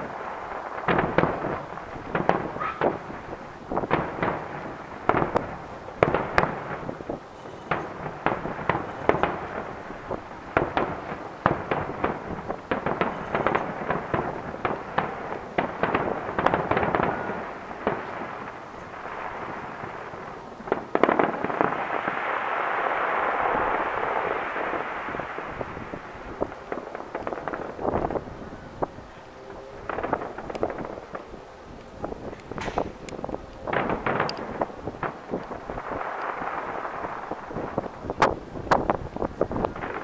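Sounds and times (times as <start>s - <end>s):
fireworks bursting: 0.0s - 40.0s
steady rushing noise: 0.0s - 40.0s.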